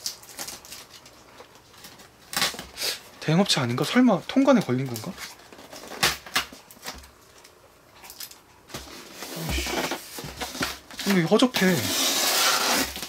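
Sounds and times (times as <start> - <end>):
packing tape rasping: 0.0 - 3.0, 4.7 - 13.0.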